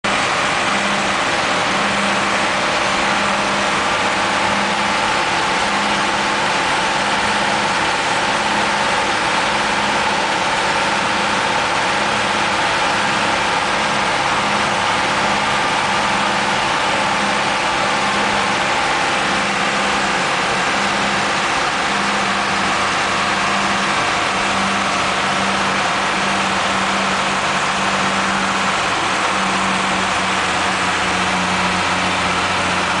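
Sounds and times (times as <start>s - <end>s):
bus engine running: 0.0s - 33.0s
road and wind noise: 0.1s - 33.0s.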